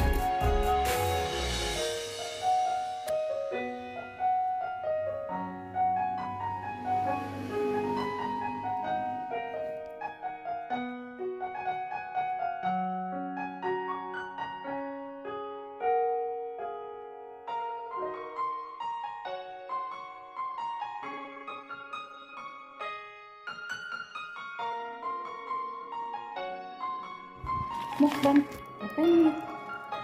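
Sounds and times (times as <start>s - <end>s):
piano melody: 0.0s - 30.0s.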